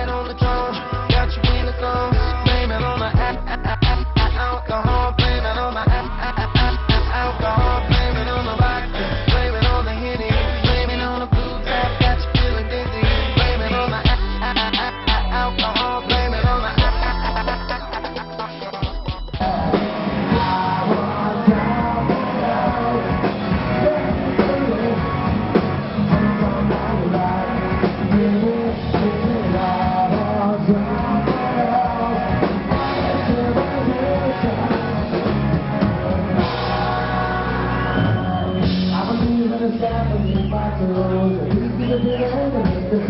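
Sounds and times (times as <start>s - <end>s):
person singing: 0.0s - 35.6s, 36.4s - 43.0s
drum kit: 0.0s - 40.8s, 41.4s - 43.0s
guitar: 0.0s - 43.0s.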